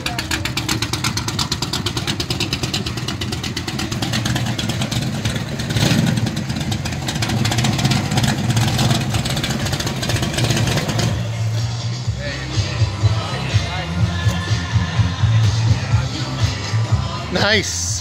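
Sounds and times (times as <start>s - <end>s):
car engine pulsing exhaust: 0.0s - 18.0s.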